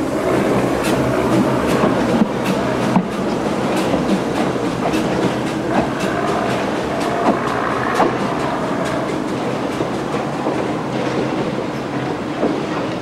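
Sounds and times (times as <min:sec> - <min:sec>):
steam train rumbling: 0:00.0 - 0:13.0
wheels clicking over rail joints: 0:00.7 - 0:13.0.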